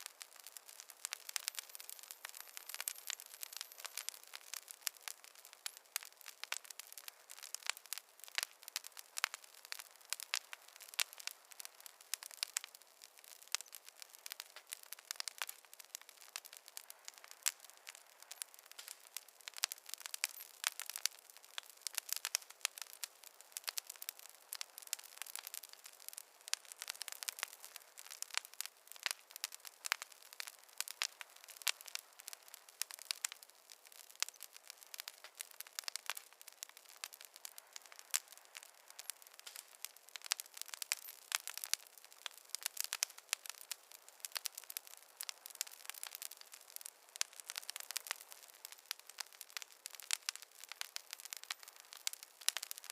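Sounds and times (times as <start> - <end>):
fire crackling in fireplace: 0.0 - 52.9.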